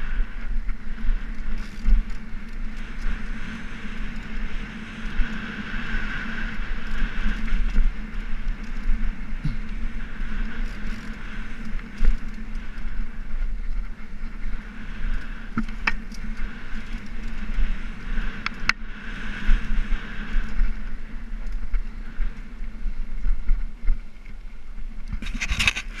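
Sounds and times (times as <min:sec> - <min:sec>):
bike rattling: 0:00.0 - 0:26.0
sharp clicks over bumps: 0:00.0 - 0:26.0
tyre and wind noise: 0:00.0 - 0:26.0.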